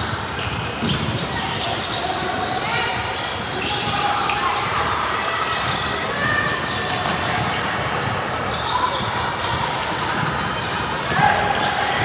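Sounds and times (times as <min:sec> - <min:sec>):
voices echoing in gym: 0:00.0 - 0:12.0.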